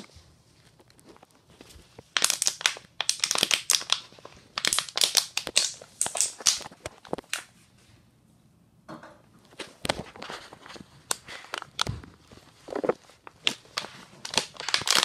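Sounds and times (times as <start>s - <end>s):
plastic bottle crinkling: 0.6s - 7.3s, 9.5s - 15.0s.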